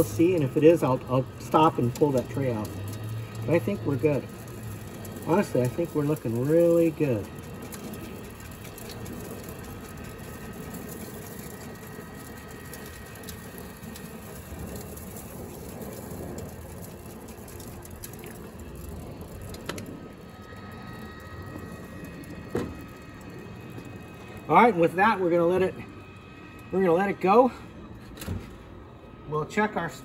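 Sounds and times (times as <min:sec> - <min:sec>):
gas grill hissing: 0:00.0 - 0:30.0
rotisserie motor whining: 0:00.0 - 0:30.0.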